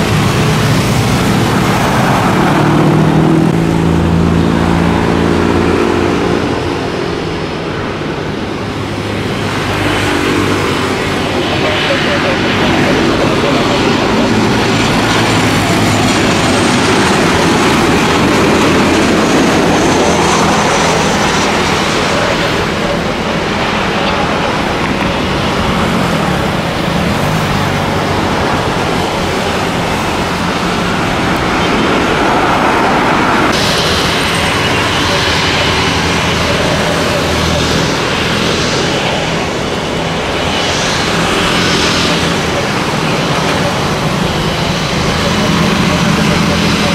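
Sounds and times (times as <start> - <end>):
jet engine noise: 0.0 - 46.9.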